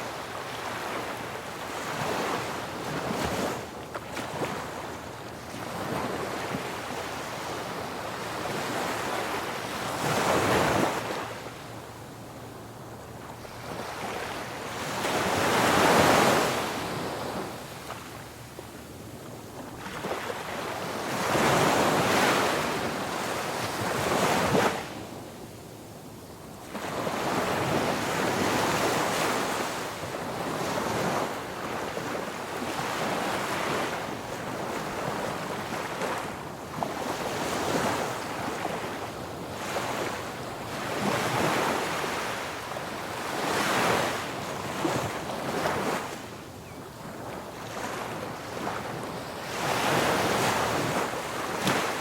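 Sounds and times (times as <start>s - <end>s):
ocean waves breaking on beach: 0.0s - 12.0s, 13.2s - 18.4s, 19.6s - 25.2s, 26.6s - 52.0s.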